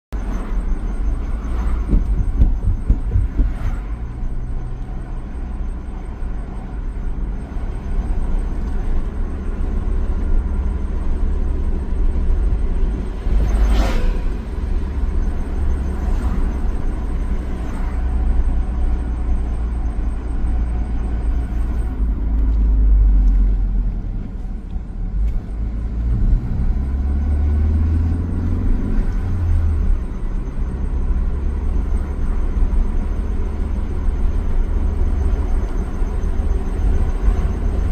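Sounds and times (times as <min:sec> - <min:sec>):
road and engine rumble inside car: 0:00.1 - 0:37.9.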